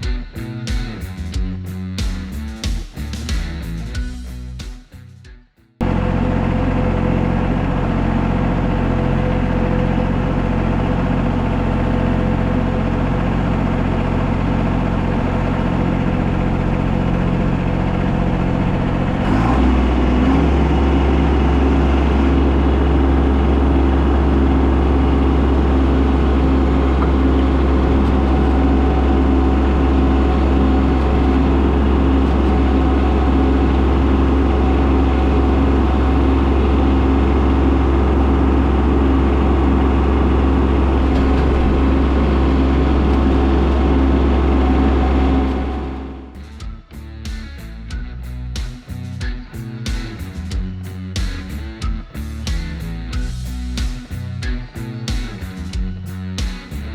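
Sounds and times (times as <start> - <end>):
tractor diesel engine running: 5.8 - 56.9.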